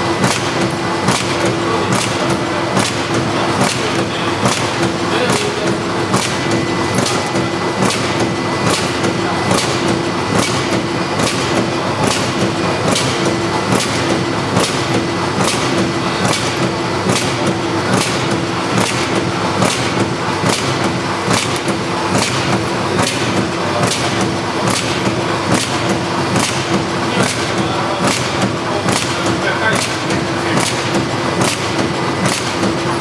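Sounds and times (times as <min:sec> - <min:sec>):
mechanical hum: 0:00.0 - 0:33.0
packing machine knocking: 0:00.0 - 0:33.0.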